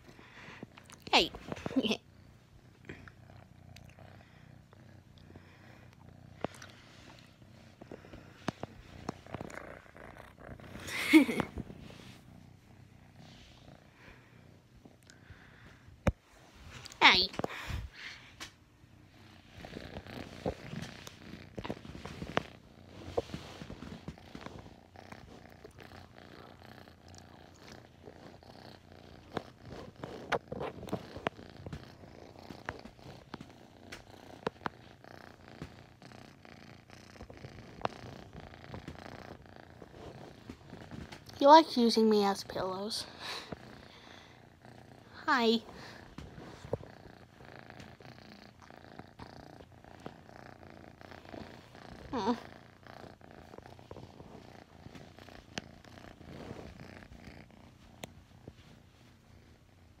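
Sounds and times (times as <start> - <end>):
kitten purring: 0.0 - 60.0.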